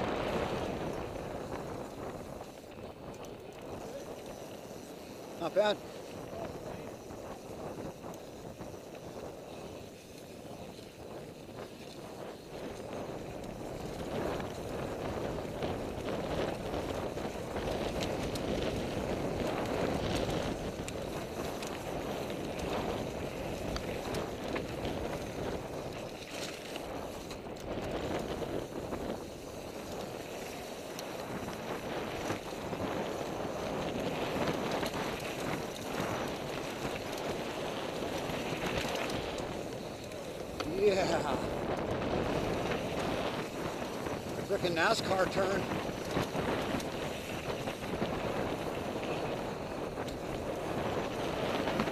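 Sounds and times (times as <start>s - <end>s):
bike clicking and rattling: 0.0s - 51.9s
bike tyres rolling on dirt: 0.0s - 51.9s
wind on microphone: 0.0s - 51.9s.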